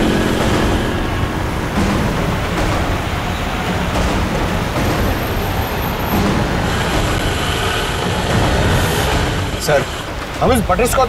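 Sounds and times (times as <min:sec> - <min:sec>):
road traffic rumbling: 0:00.0 - 0:11.0.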